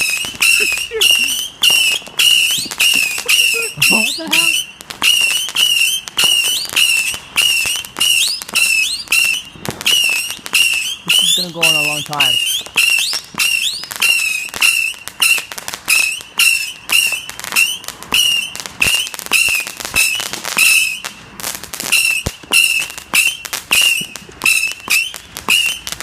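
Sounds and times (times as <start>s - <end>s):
firework cracks and whistles: 0.0s - 26.0s.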